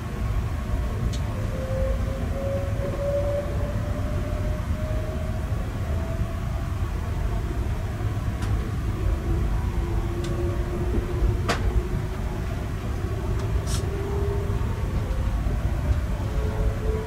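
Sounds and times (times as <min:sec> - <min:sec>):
faint train whine: 0:00.0 - 0:17.0
train wheels rumbling on rails: 0:00.0 - 0:17.0.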